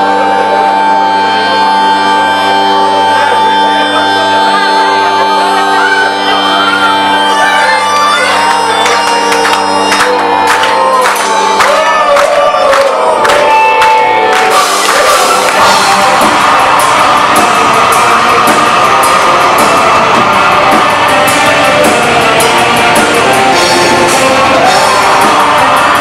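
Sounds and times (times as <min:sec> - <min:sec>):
audience shouts and whistles: 0:00.0 - 0:26.0
droning music through pa: 0:00.0 - 0:26.0.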